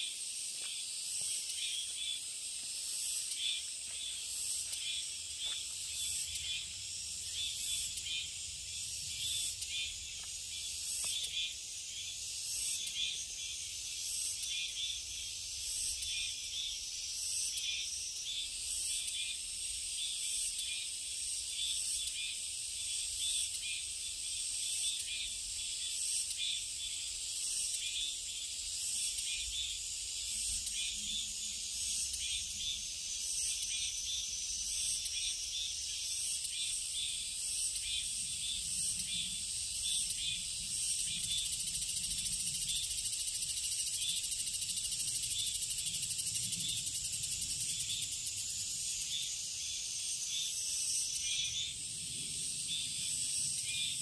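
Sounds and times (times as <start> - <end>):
cicadas calling: 0.0 - 54.0.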